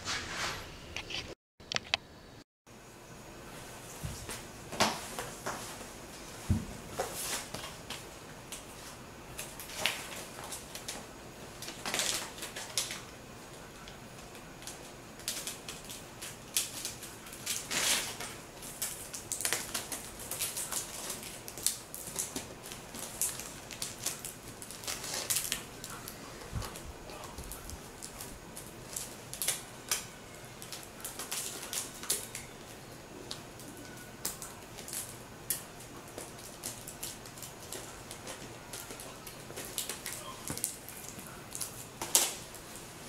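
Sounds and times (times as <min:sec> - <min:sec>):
paper rustling and crinkling: 0:03.6 - 0:43.0.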